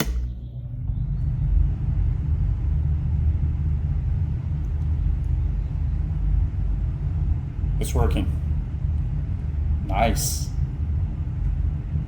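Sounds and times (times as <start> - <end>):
fan motor and moving air: 0.0 - 12.0.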